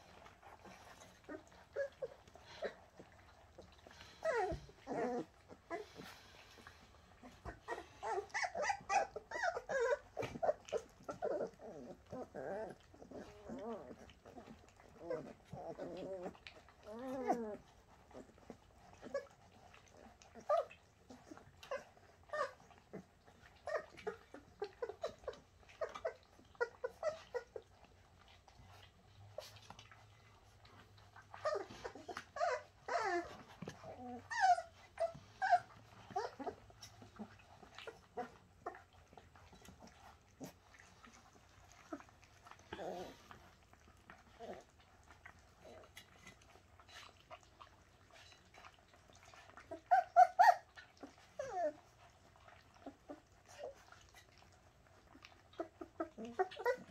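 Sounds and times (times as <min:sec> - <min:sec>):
puppies whining and squeaking: 0:00.0 - 0:56.9.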